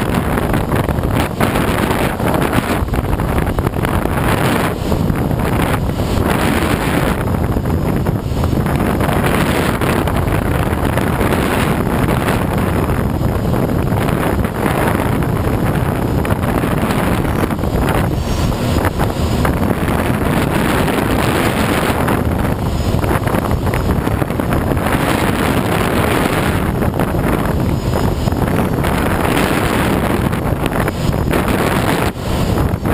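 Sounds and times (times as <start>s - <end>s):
rush of air over cockpit: 0.0s - 32.9s
wind buffeting microphone: 0.0s - 32.9s.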